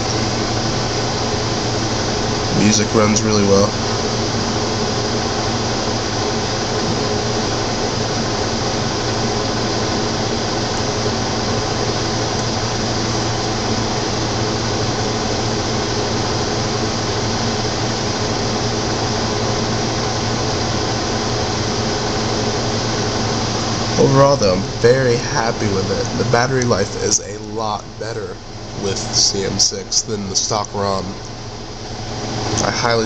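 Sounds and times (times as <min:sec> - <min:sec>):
faint low electrical hum: 0:00.0 - 0:33.0
machine hum and hiss: 0:00.0 - 0:33.0.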